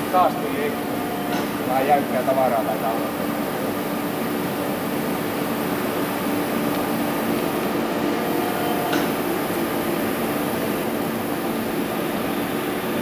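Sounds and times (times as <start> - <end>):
machine hum with low drone: 0.0 - 13.0.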